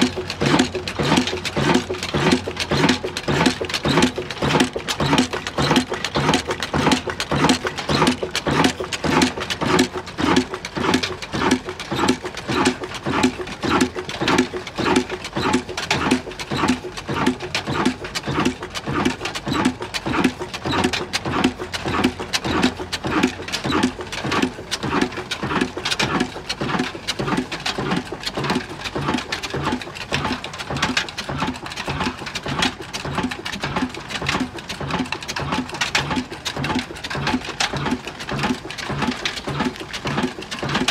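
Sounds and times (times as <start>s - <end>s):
diesel engine running slowly: 0.0s - 40.9s.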